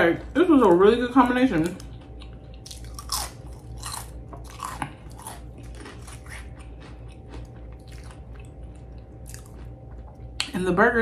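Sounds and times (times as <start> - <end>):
crunching potato chips: 0.1 - 10.5.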